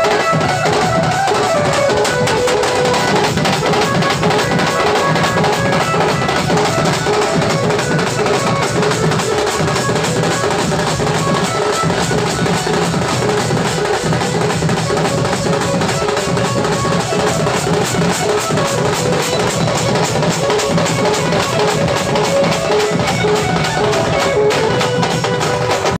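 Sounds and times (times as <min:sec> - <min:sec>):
fast drum beat: 0:00.0 - 0:26.0
held keyboard melody: 0:00.0 - 0:26.0.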